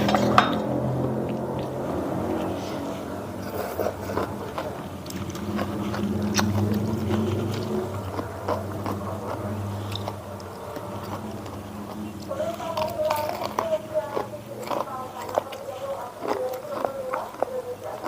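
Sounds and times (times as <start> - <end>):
chewing and biting: 0.0 - 18.0
steady low hum: 0.0 - 18.0.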